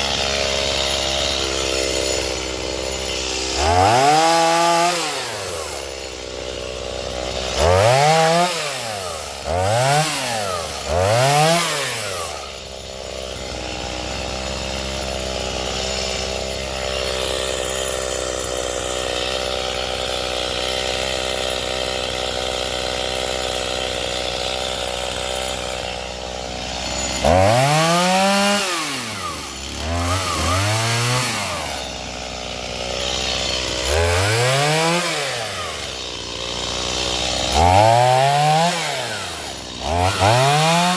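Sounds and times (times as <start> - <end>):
chainsaw revving and running: 0.0 - 40.9.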